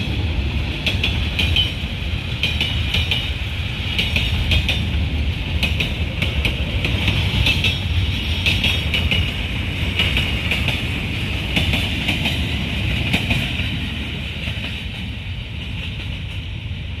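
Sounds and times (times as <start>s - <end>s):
wheels clattering on rails: 0.0s - 16.6s
freight train low rumble: 0.0s - 17.0s.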